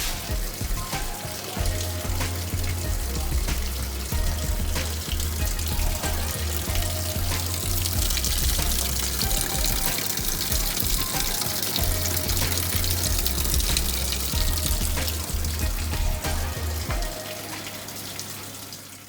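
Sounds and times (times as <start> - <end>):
water rushing into washing machine: 0.0 - 19.0.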